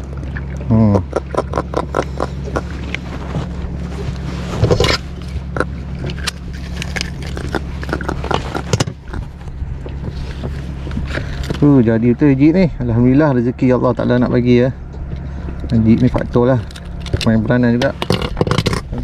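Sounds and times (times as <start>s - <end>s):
low hum: 0.0s - 19.0s
fish handling clicks and scrapes: 1.1s - 11.9s, 13.9s - 19.0s.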